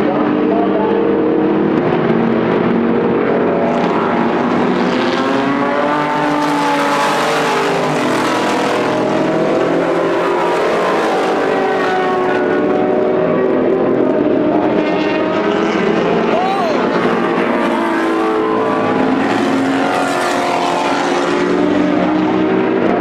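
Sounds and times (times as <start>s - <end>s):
race car engines running hard: 0.0s - 23.0s
car accelerating past: 0.9s - 23.0s.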